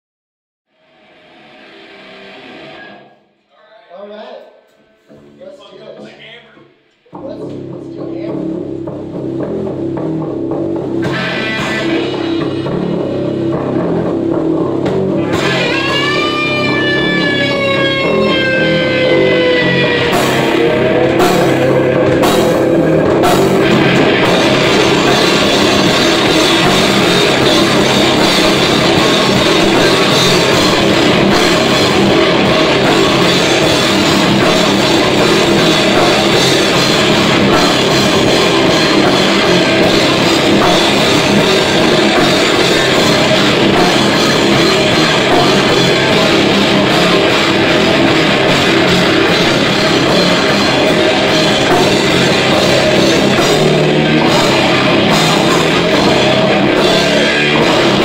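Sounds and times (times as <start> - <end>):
heavy metal band playing live: 0.8 - 3.1, 7.1 - 58.0
guitar note sliding down: 0.8 - 3.3, 10.3 - 58.0
drum and cymbal crashes: 7.2 - 58.0.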